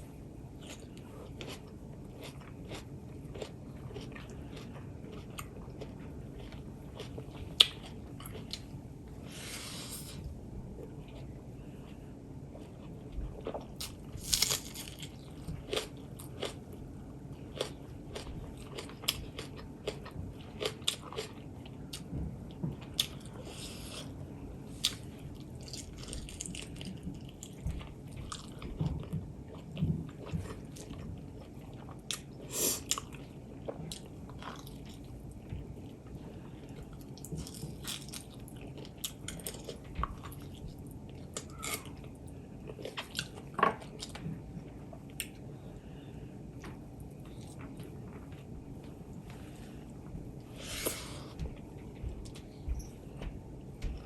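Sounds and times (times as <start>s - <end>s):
person chewing food: 0.5s - 45.9s, 46.5s - 54.0s.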